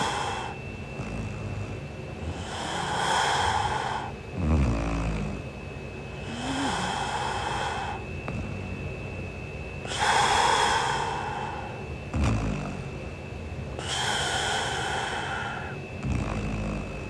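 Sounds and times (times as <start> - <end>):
woman snoring: 0.0 - 5.6, 6.2 - 8.9, 9.8 - 13.0, 13.8 - 17.0.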